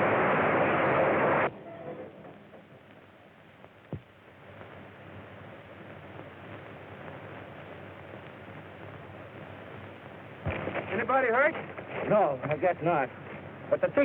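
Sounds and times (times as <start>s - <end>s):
film soundtrack hiss: 0.0s - 14.0s.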